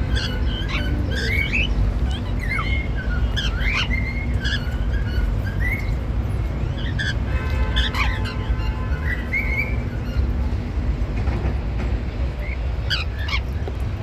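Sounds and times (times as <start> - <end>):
cockatiels chirping and whistling: 0.0 - 10.3, 12.4 - 13.6.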